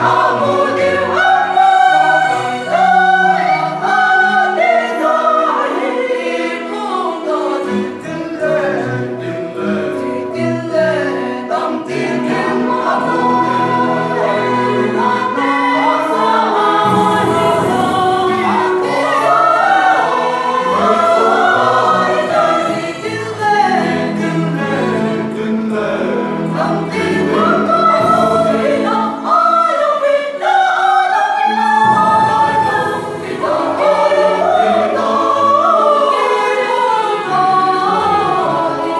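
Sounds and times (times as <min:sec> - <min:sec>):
mixed choir singing: 0:00.0 - 0:38.9.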